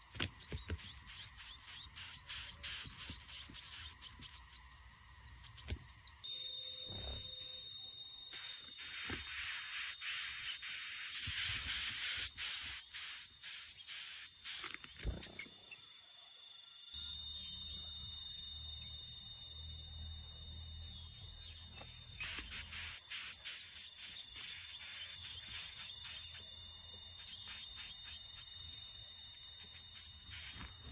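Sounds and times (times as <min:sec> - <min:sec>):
insect chorus shrilling: 0:00.0 - 0:07.4, 0:08.3 - 0:30.9.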